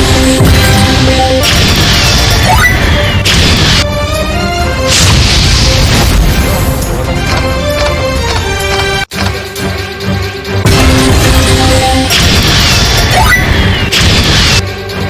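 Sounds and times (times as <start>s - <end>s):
slot game music: 0.0s - 15.0s.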